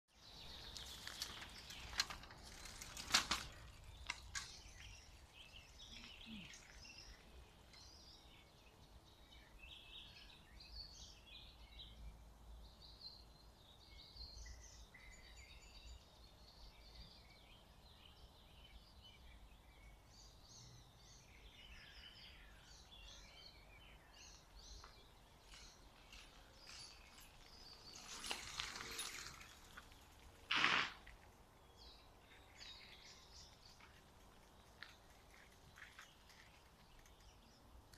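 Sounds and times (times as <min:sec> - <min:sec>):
birds chirping and trilling: 0:00.2 - 0:30.8.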